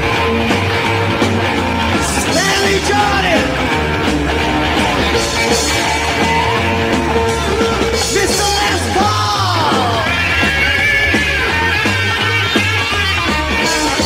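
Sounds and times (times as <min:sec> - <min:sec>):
electric guitar solo: 0:00.0 - 0:14.0
upright bass walking line: 0:00.0 - 0:14.0.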